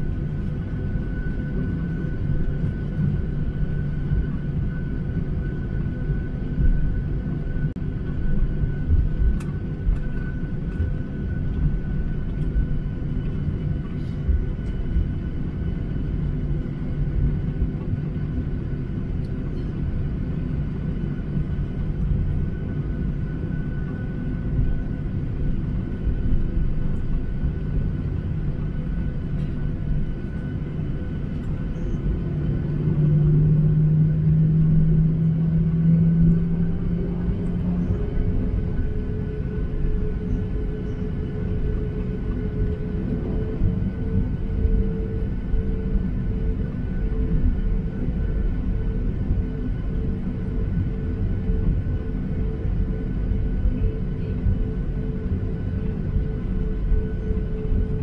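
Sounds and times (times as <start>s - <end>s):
aircraft cabin low rumble: 0.0s - 58.0s.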